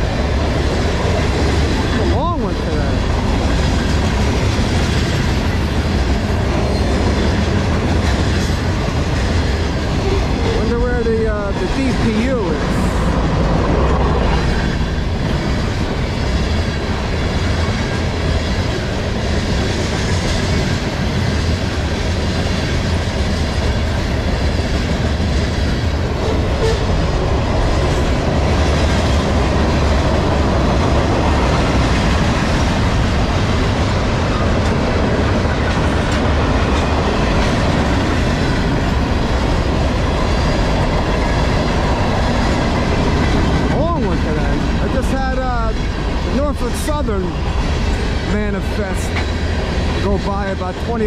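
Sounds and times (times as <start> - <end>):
freight train wheels rumbling on rail: 0.0 - 51.0.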